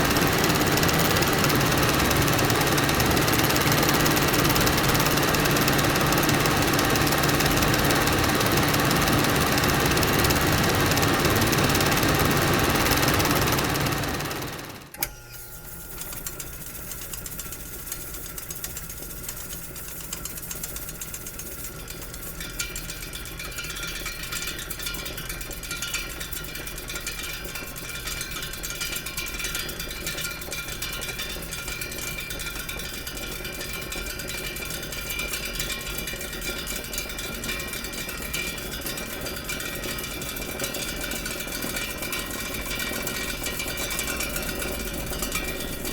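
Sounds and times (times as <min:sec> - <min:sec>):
film projector clattering: 0:00.0 - 0:15.1, 0:15.9 - 0:45.9.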